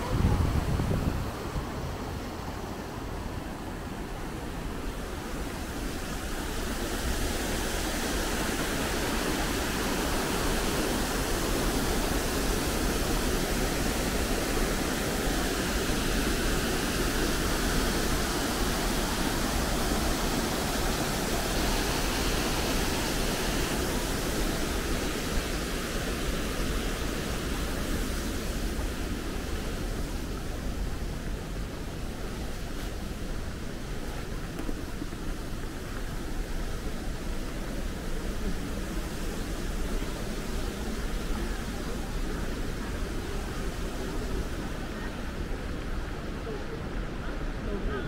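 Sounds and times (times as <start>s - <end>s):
waterfall roaring: 0.0s - 48.0s.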